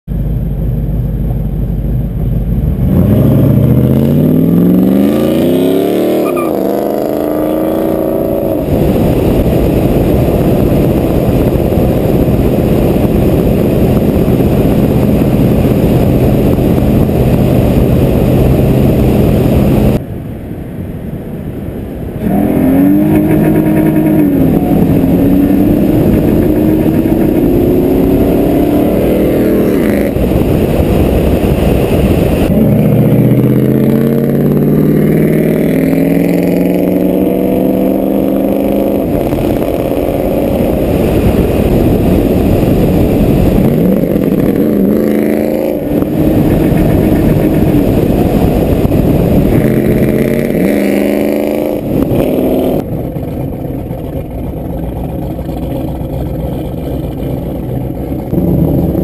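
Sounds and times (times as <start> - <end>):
car engine accelerating hard: 0.7 - 20.0, 22.2 - 59.0.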